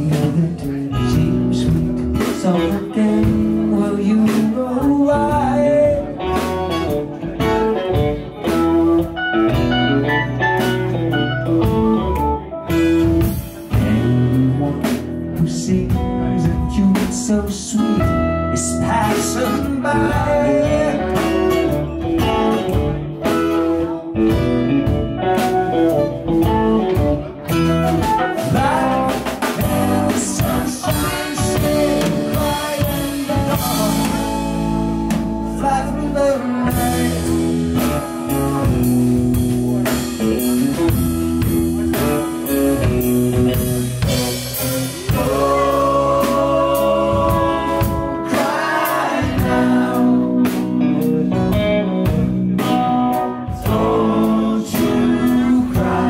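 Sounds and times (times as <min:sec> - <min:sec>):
bass: 0:00.0 - 0:56.0
drum kit: 0:00.0 - 0:56.0
electric guitar: 0:00.0 - 0:56.0
person singing: 0:00.0 - 0:56.0.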